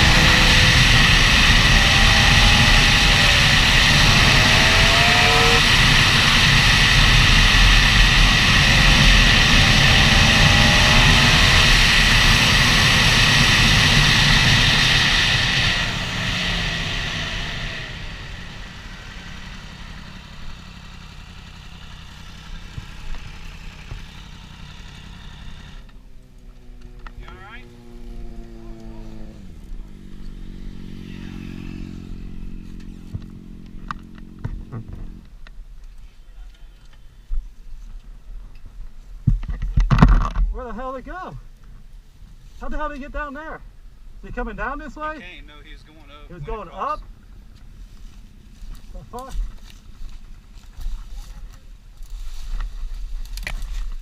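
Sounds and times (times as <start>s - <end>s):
motorcycle engine revving: 0.0s - 35.5s, 44.3s - 54.0s.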